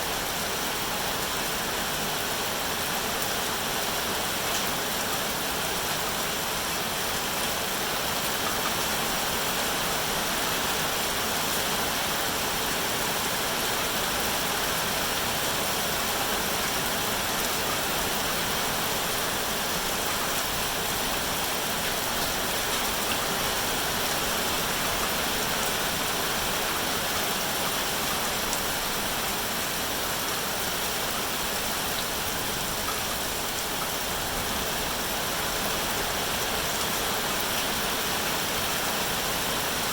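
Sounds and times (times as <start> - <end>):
steady rainfall hiss: 0.0 - 39.9.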